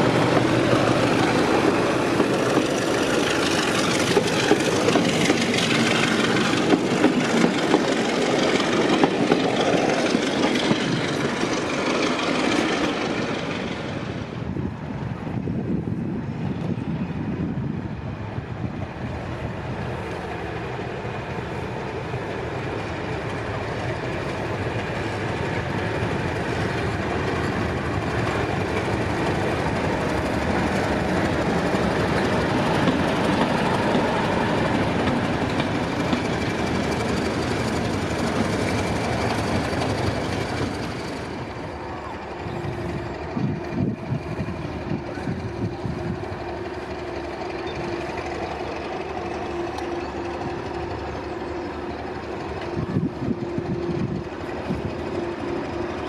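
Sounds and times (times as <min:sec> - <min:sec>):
wheels running on rails: 0:00.0 - 0:17.2, 0:18.6 - 0:56.0
diesel locomotive engine: 0:00.0 - 0:56.0.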